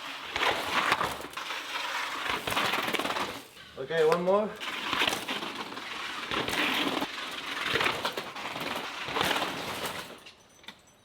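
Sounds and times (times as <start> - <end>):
bike tyre and freewheel noise: 0.0 - 10.3
bike wheels knocking on bumps: 0.1 - 10.2.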